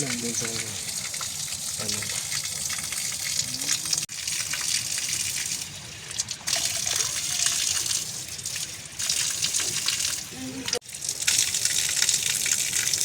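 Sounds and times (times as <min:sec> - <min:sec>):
water gushing and splashing: 0:00.0 - 0:13.0.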